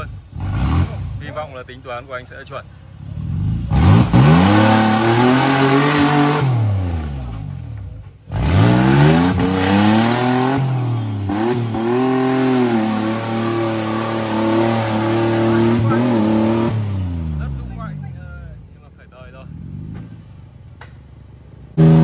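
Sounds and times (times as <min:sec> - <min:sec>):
off-road engine revving hard: 0:00.0 - 0:18.3, 0:21.7 - 0:22.0.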